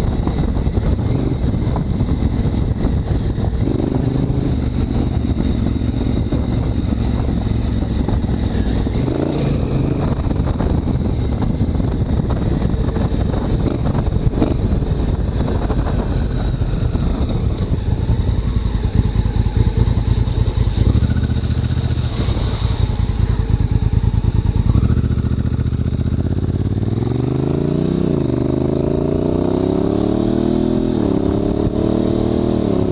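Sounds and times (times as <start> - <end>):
motorcycle engine rumbling: 0.0 - 32.9.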